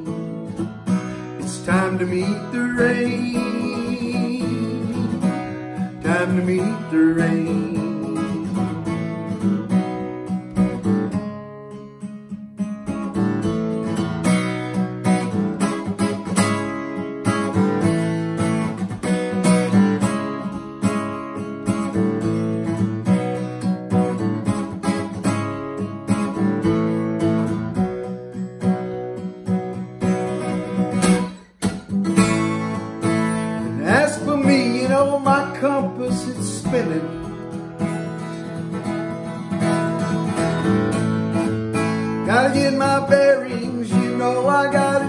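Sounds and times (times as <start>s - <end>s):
acoustic guitar strummed and picked: 0.0s - 45.0s.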